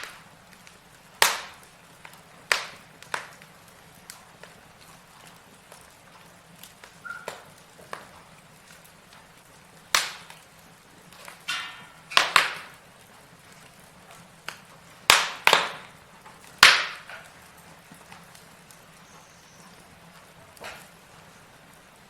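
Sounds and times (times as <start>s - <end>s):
logs crackling in fireplace: 0.0s - 22.0s.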